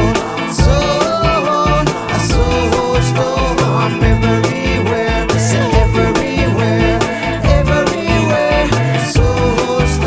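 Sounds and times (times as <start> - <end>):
bass line: 0.0 - 10.0
drums: 0.0 - 10.0
pitched instruments playing: 0.0 - 10.0.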